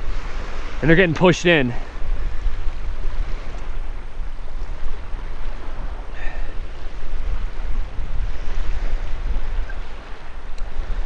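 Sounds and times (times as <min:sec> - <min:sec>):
waves washing on pebble beach: 0:00.0 - 0:11.0
wind buffeting microphone: 0:00.0 - 0:11.0.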